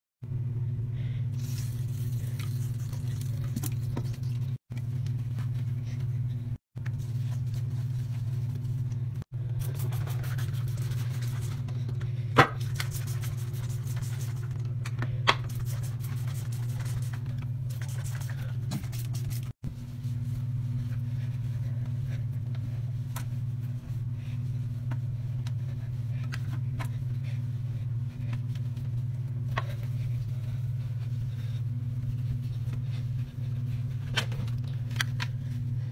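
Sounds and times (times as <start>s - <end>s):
low hum: 0.2s - 35.9s.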